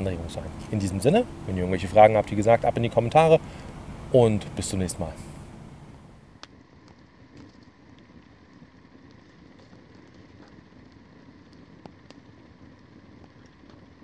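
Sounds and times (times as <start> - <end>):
campfire flames rushing: 0.0 - 14.0
fire crackling and popping: 0.0 - 14.0.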